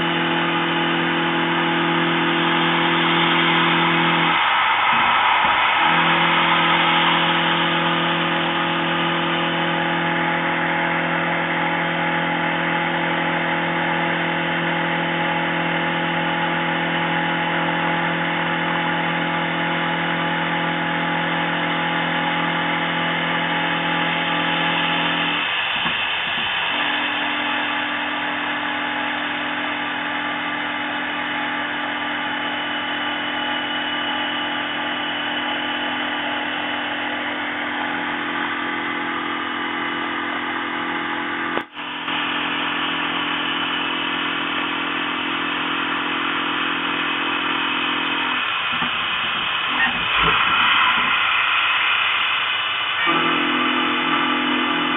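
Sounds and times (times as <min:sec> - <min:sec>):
milling machine whirring: 0:00.0 - 0:54.9.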